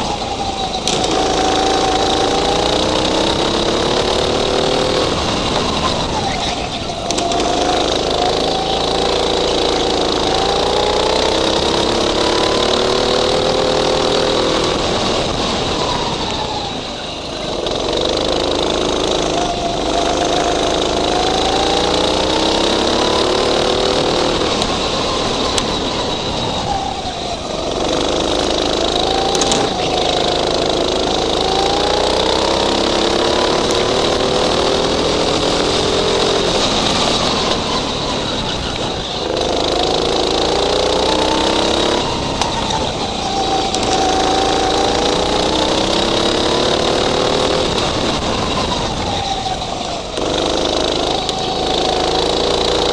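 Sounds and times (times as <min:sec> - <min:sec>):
go-kart engine accelerating: 0:00.0 - 0:52.9.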